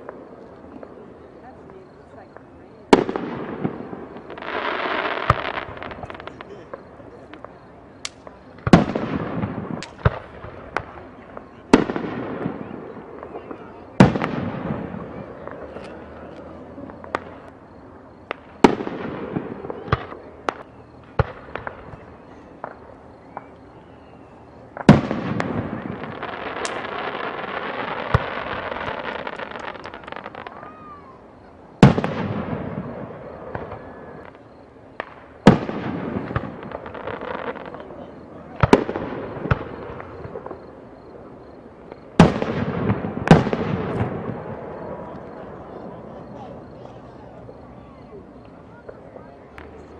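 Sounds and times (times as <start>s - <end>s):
fireworks crackling: 0.0s - 49.9s
fireworks loud bangs: 0.0s - 49.9s
fireworks sharp pops: 1.8s - 30.8s, 31.8s - 45.6s, 48.4s - 49.9s.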